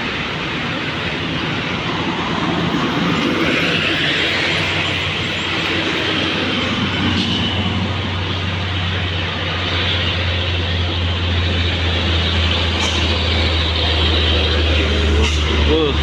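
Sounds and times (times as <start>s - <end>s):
highway traffic passing: 0.0s - 16.0s
low engine hum: 0.0s - 16.0s.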